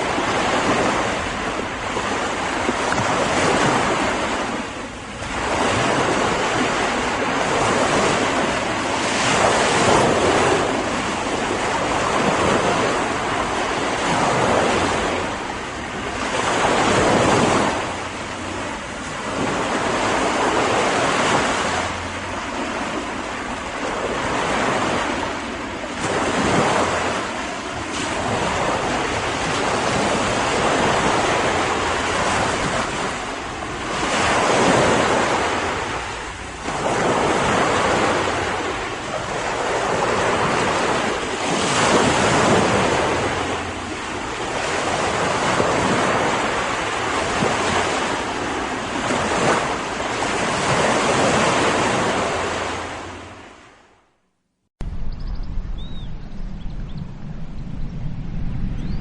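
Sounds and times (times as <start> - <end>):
ocean waves breaking on beach: 0.0 - 54.2
wind: 0.0 - 59.0.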